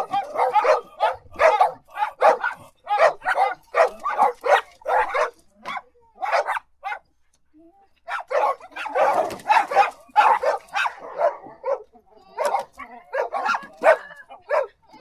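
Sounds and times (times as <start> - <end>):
dog barking: 0.0 - 7.1, 8.1 - 14.8.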